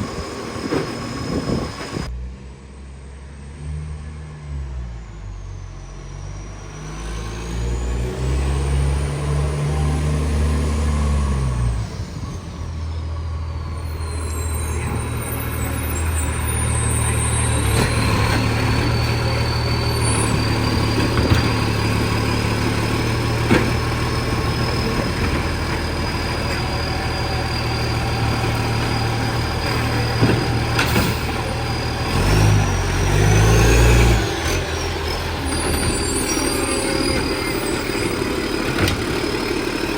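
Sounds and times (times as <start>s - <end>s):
diesel truck engine with exhaust leak: 0.0s - 2.2s, 4.7s - 39.9s.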